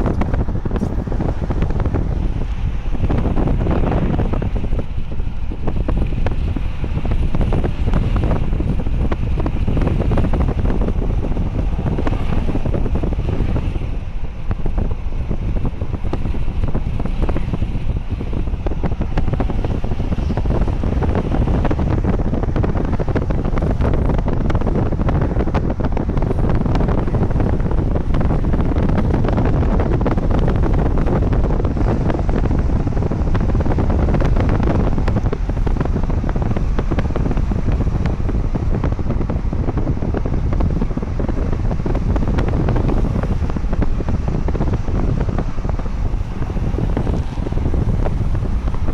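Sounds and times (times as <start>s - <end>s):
freight train rumbling: 0.0s - 48.9s
wind buffeting microphone: 0.0s - 48.9s.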